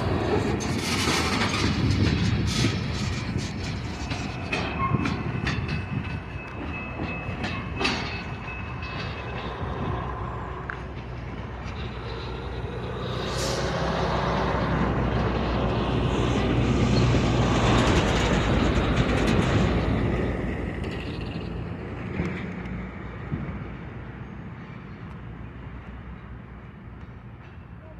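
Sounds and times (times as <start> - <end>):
diesel train engine hum: 0.0 - 27.9
train wheels rolling: 0.0 - 27.9.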